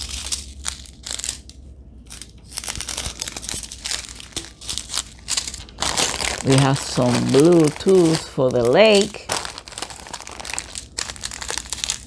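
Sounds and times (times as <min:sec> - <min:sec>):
plastic baggies crinkling: 0:02.1 - 0:12.0.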